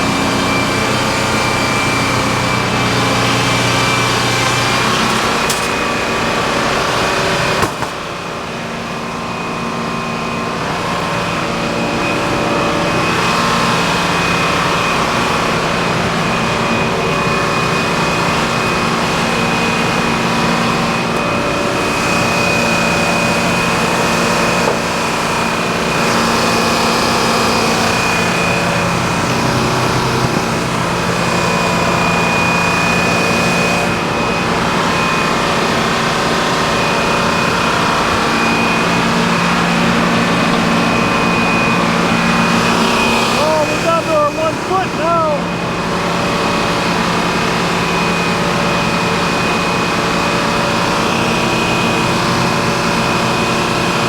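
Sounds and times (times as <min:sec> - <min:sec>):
high saw whine: 0:00.0 - 0:54.0
sawmill engine drone: 0:00.0 - 0:54.0.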